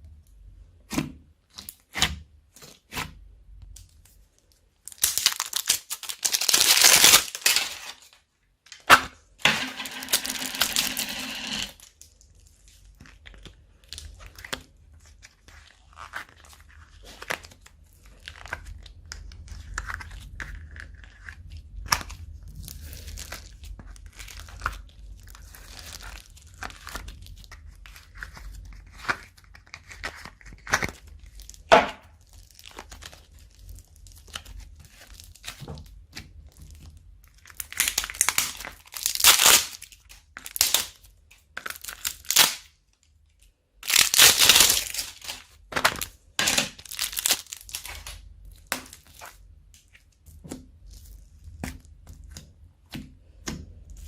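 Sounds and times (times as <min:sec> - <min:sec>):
slime crackling and popping: 0:04.8 - 0:08.1, 0:11.7 - 0:42.7, 0:43.8 - 0:54.0.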